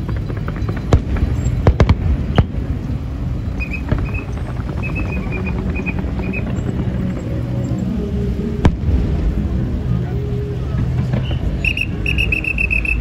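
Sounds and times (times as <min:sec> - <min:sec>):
fireworks banging: 0:00.0 - 0:07.6, 0:08.4 - 0:10.0, 0:10.7 - 0:13.0
fireworks crackling: 0:00.0 - 0:13.0
low rumble: 0:00.0 - 0:13.0.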